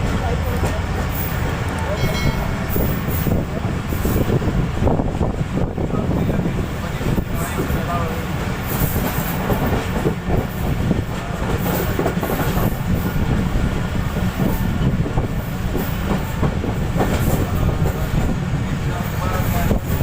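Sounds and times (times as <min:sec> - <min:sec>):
train coaches rumbling past: 0:00.0 - 0:20.0.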